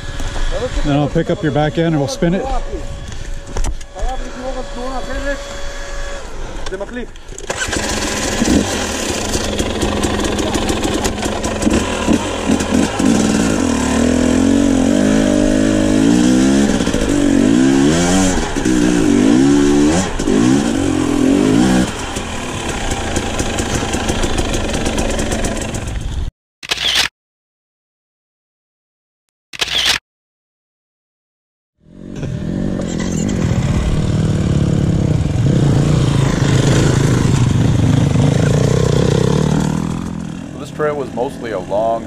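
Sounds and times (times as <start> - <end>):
dirt bike engine revving: 0.0 - 26.2, 31.8 - 42.0.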